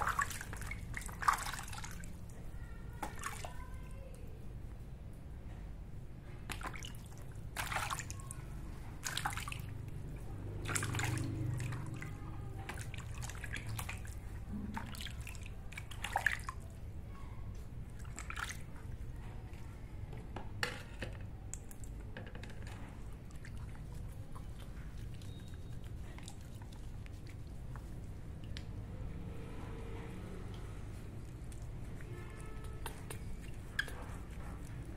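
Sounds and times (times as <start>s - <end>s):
water splashing and dripping: 0.0s - 3.9s, 6.4s - 16.8s, 17.5s - 19.1s, 22.6s - 34.9s.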